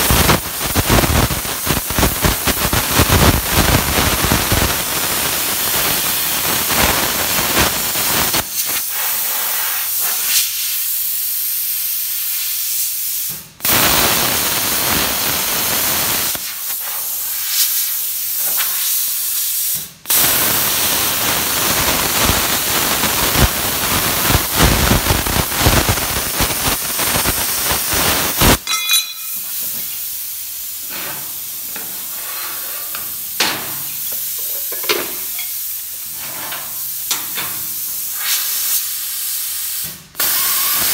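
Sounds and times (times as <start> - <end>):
welding arc crackling and hissing: 0.0 - 40.9.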